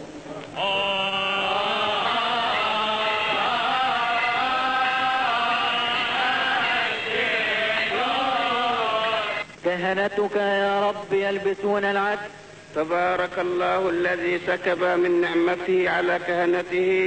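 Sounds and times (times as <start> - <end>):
liturgical chant: 0.2 - 17.0.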